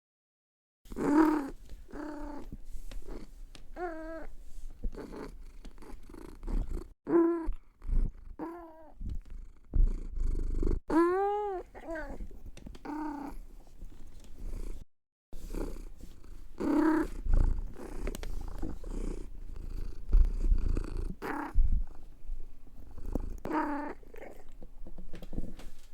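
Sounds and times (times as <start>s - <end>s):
cat purring: 0.9s - 14.8s, 15.4s - 25.5s.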